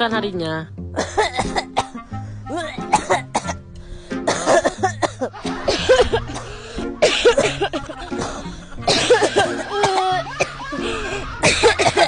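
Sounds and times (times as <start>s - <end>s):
background music: 0.0s - 12.0s
people coughing: 1.0s - 3.6s, 4.2s - 12.0s.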